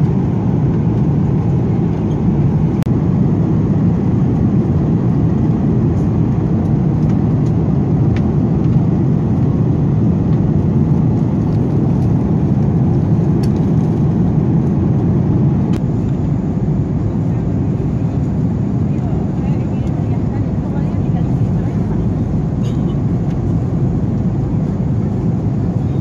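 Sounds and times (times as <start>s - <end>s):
jet cabin engine rumble: 0.0s - 26.0s.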